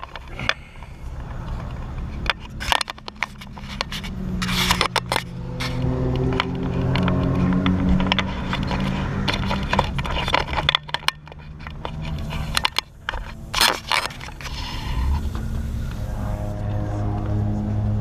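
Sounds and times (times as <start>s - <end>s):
car engine running low: 0.0s - 18.0s.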